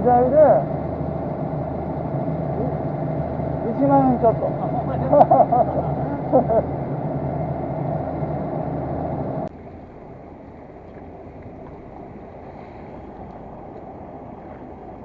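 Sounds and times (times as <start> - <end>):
motor hum: 0.0 - 15.0
water wash: 0.0 - 15.0
wind: 0.0 - 15.0.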